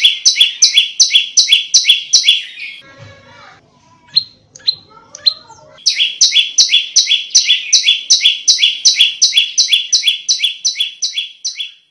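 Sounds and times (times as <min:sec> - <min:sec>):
songbird singing: 0:00.0 - 0:02.8, 0:04.1 - 0:11.9.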